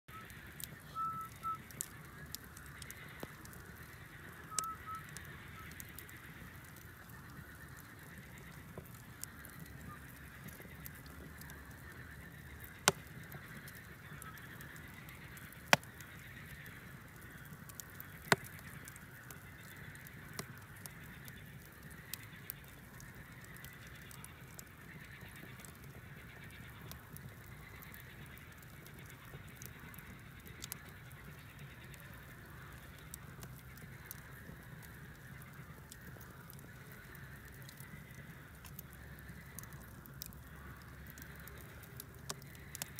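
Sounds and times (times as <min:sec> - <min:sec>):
fire popping: 0:00.1 - 0:42.9
wood fire crackling: 0:00.1 - 0:42.9.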